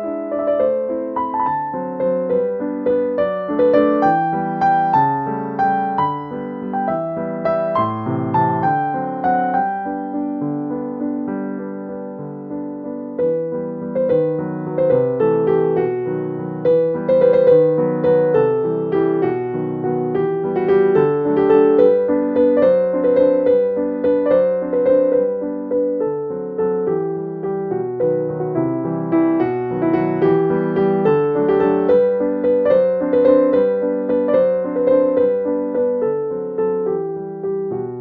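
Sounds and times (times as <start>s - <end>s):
gentle piano melody: 0.0s - 38.0s.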